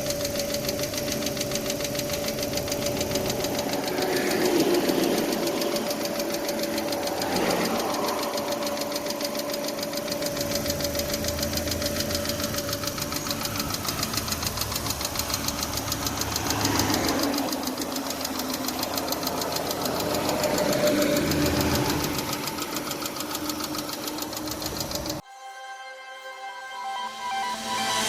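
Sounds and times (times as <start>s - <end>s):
fast engine ticking: 0.0s - 25.2s, 27.2s - 28.0s
car engine droning: 0.0s - 28.0s.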